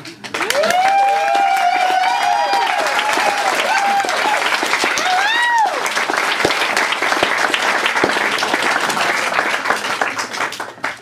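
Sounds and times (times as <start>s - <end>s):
audience applauding: 0.2s - 11.0s.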